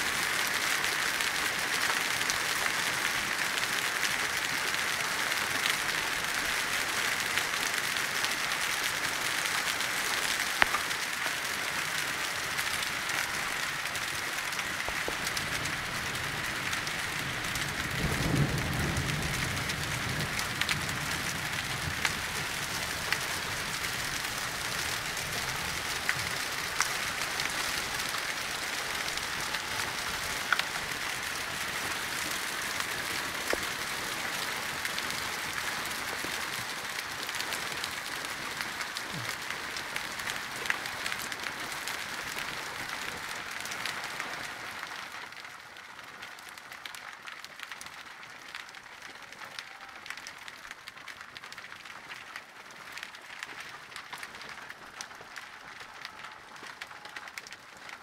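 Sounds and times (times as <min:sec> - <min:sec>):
hail and rain pelting: 0:00.0 - 0:58.0
hailstones clicking: 0:00.2 - 0:58.0.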